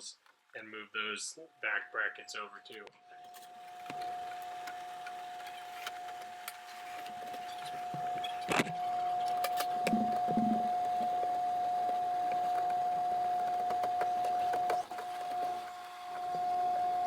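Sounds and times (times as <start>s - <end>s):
power drill motor running: 3.2s - 17.0s.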